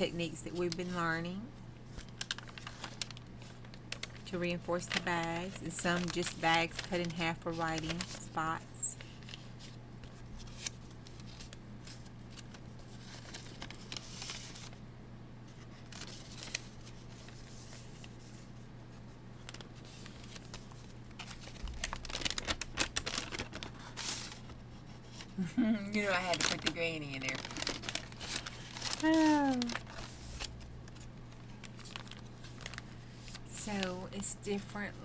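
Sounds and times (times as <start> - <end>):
low steady hum: 0.0 - 35.0
paper pages rustling: 1.9 - 14.8, 15.5 - 35.0.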